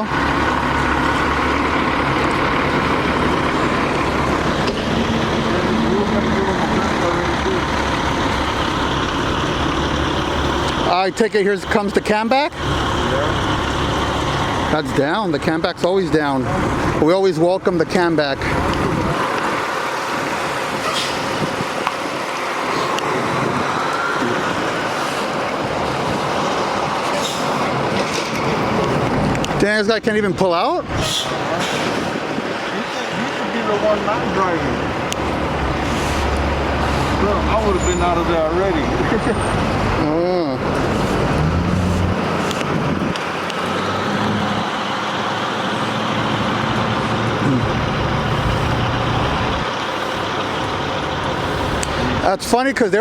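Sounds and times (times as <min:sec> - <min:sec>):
trucks and traffic running: 0:00.0 - 0:53.0.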